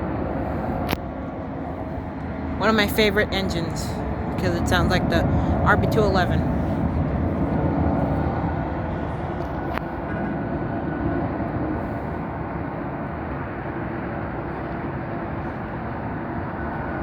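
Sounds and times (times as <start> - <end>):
jet engine rumble with whine: 0.0 - 17.0.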